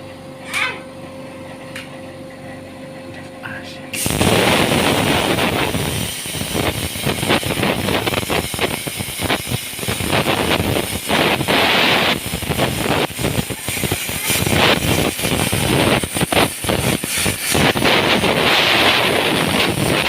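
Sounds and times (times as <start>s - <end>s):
cutting torch hissing and crackling: 3.5s - 20.0s.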